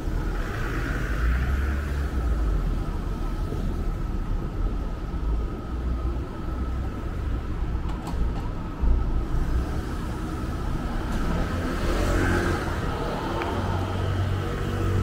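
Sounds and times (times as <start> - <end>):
car traffic rumble: 0.0 - 15.0.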